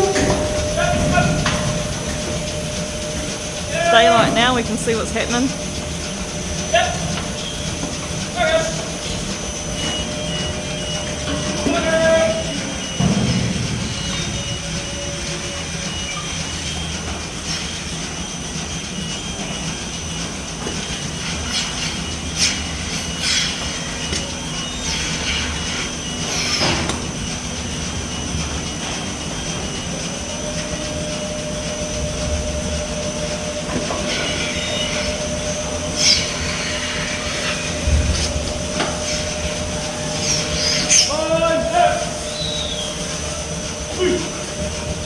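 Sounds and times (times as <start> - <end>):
milking machinery drone and whine: 0.0 - 45.0.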